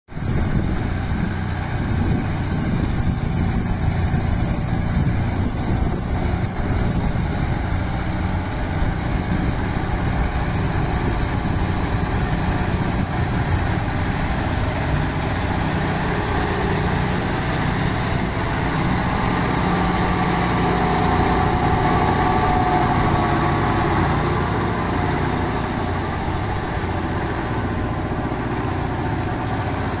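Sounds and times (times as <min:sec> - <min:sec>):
tractor diesel engine running: 0:00.1 - 0:30.0.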